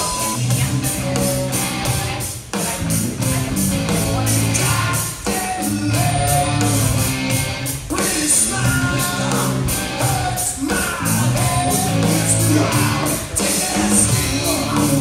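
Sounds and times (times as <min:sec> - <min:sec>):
electric guitar: 0:00.0 - 0:15.0
rock music with singing: 0:00.0 - 0:15.0
steady beat: 0:00.0 - 0:15.0.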